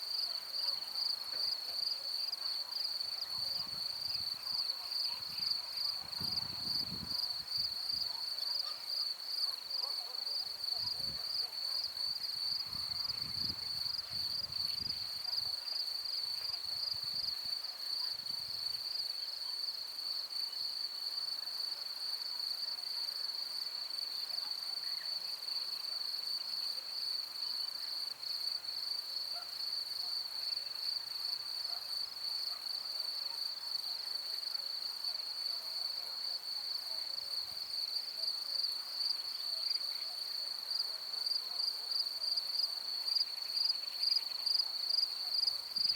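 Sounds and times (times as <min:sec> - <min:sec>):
crickets chirping: 0:00.1 - 0:45.9.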